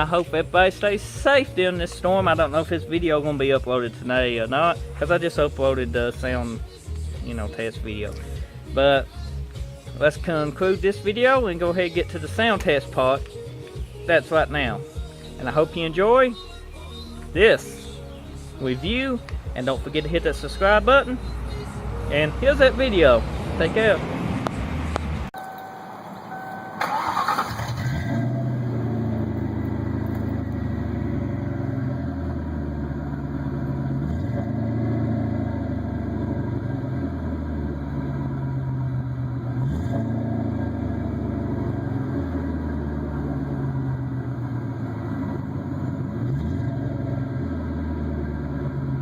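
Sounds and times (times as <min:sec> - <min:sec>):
car engine starting and idling: 0:00.0 - 0:49.0.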